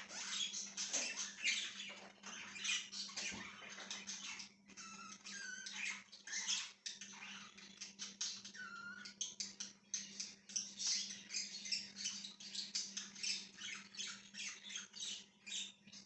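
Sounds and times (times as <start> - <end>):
budgies chirping: 0.0 - 16.0.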